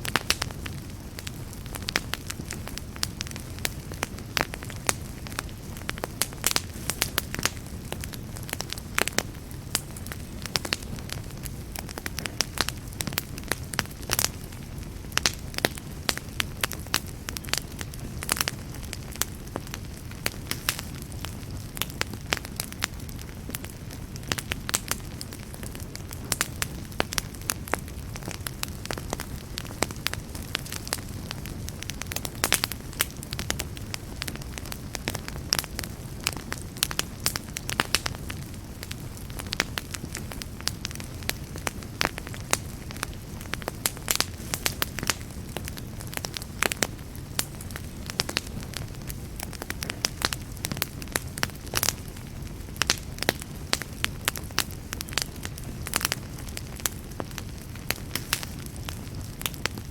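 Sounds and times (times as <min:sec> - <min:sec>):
campfire crackling: 0:00.0 - 0:59.9
sharp pops and snaps of fire: 0:00.0 - 0:59.9.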